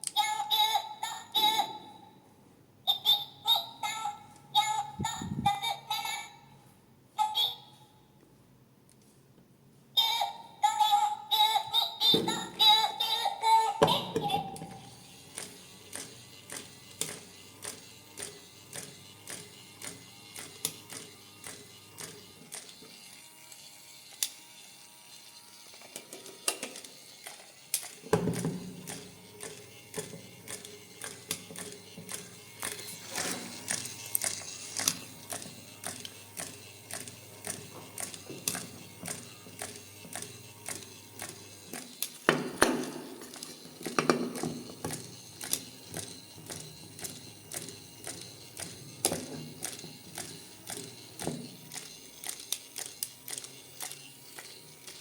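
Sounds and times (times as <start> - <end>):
toy gear mechanism clicking: 0.0 - 2.0, 2.9 - 6.4, 10.0 - 55.0.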